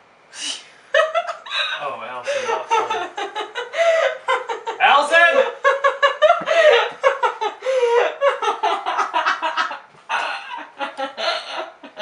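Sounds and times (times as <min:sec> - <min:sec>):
people laughing hard: 0:01.0 - 0:12.0.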